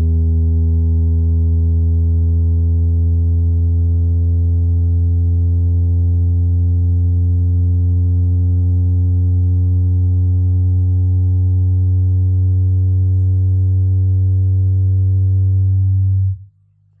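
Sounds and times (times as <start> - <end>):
subwoofer deep bass tone: 0.0 - 16.6.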